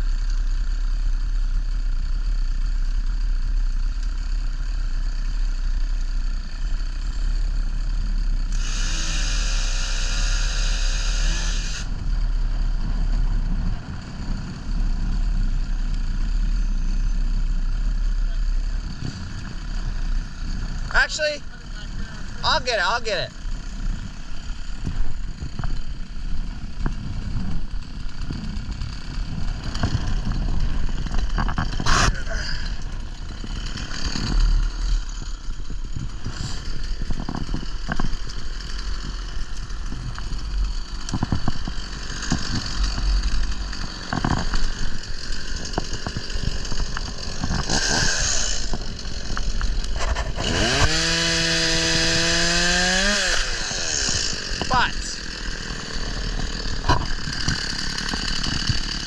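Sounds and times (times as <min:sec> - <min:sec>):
chainsaw engine revving: 0:06.2 - 0:13.4, 0:14.0 - 0:59.0.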